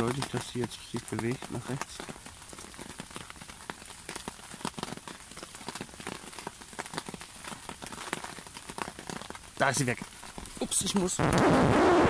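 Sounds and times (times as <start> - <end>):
rain falling on pond: 0.0 - 12.0
sharp raindrop hits: 0.0 - 12.0.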